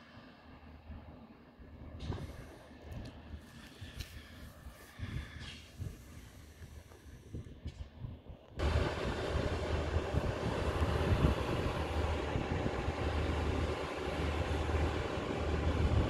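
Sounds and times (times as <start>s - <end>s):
diesel train engine hum: 0.0s - 16.0s.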